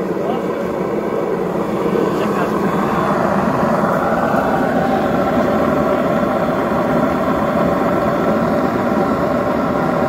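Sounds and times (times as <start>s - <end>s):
carpet cleaning machine whirring: 0.0s - 10.0s
faint motor whine: 0.0s - 10.0s.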